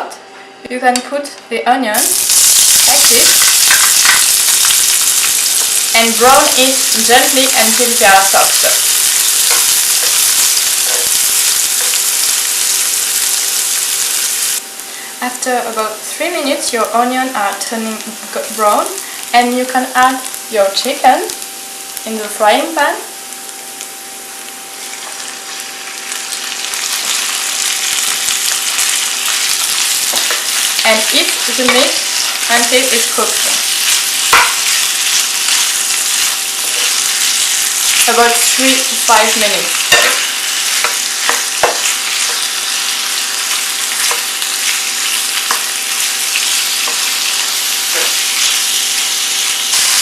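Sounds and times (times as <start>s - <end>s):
chicken sizzling in oil: 2.0s - 15.2s, 17.1s - 50.0s.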